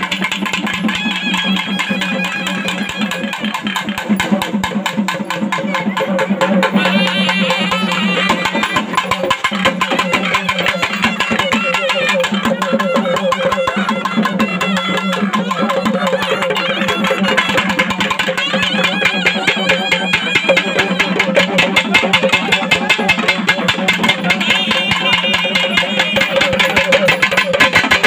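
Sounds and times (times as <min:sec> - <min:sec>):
fast dense drumming: 0:00.0 - 0:28.0.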